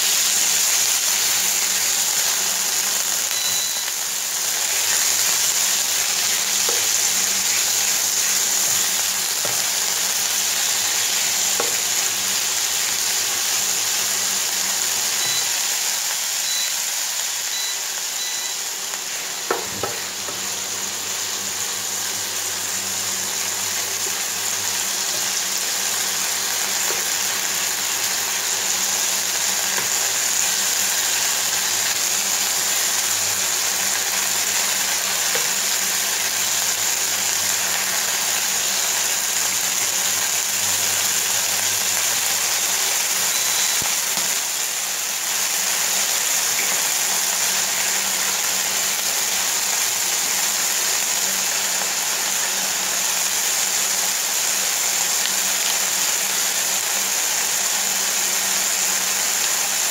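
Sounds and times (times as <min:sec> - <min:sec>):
chicken sizzling in frying pan: 0:00.0 - 0:59.9.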